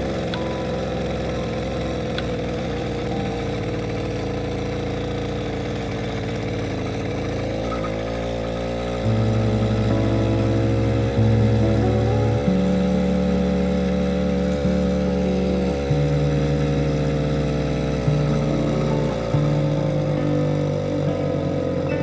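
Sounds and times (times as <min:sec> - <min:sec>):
music with held notes: 0:00.0 - 0:05.2, 0:09.0 - 0:22.0
motorcycle engine running: 0:00.0 - 0:22.0.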